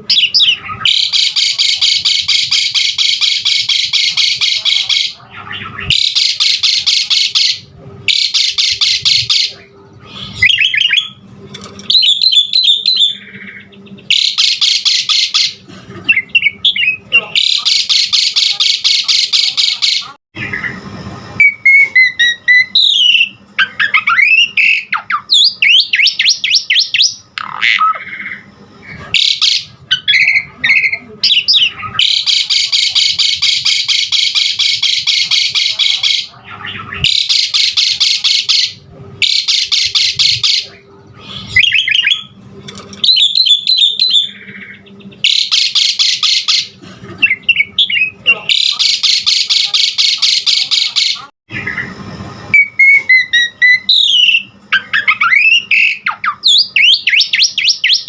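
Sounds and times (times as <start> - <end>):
harsh bird chattering: 0.0 - 11.2, 11.9 - 20.8, 21.5 - 42.4, 43.0 - 51.9.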